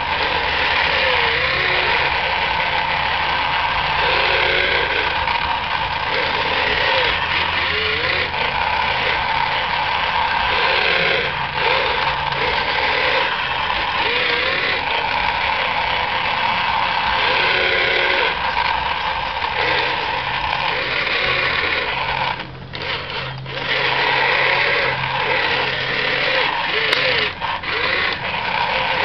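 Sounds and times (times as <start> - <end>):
small electric motors whining: 0.0 - 29.0.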